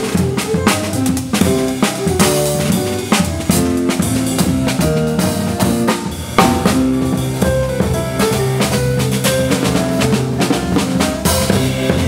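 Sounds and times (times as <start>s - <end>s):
double bass: 0.0s - 12.0s
drum kit: 0.0s - 12.0s
electric piano: 0.0s - 12.0s.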